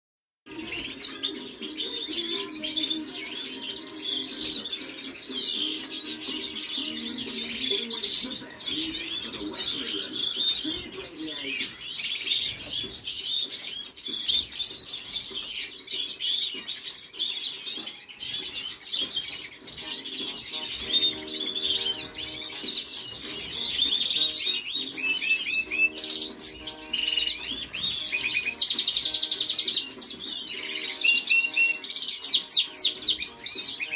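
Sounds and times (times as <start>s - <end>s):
canaries chirping and singing: 0.5s - 33.9s.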